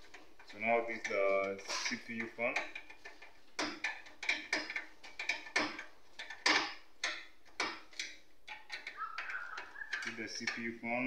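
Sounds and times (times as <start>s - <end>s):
screwdriver clicking and scraping on metal: 0.0s - 10.8s.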